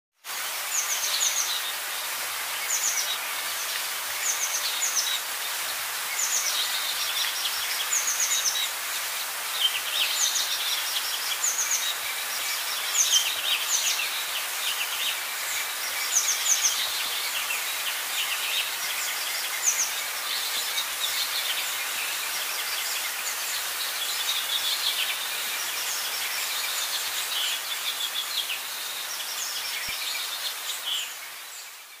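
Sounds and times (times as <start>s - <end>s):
background hiss: 0.2s - 32.0s.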